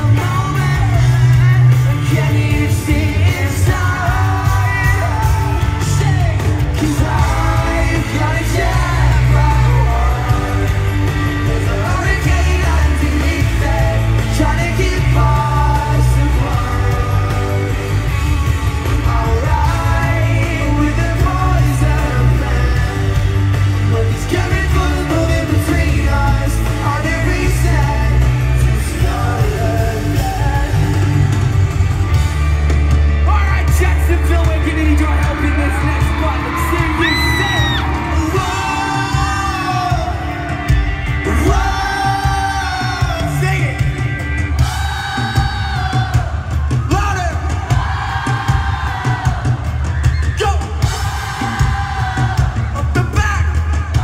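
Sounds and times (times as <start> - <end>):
person singing: 0.0 - 31.9, 33.2 - 49.8
heavy pulsing bass: 0.0 - 47.0
audience screaming: 0.0 - 54.0
pop-rock band playing live: 0.0 - 54.0.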